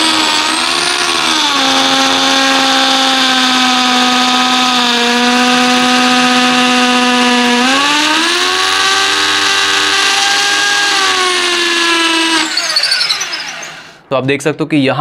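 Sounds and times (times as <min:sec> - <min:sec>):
electric drill drilling into brick: 0:00.0 - 0:14.0.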